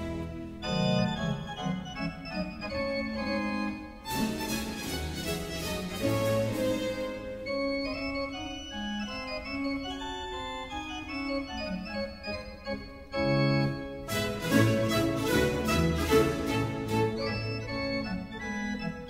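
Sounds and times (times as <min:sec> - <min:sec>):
organ music: 0:00.0 - 0:19.0.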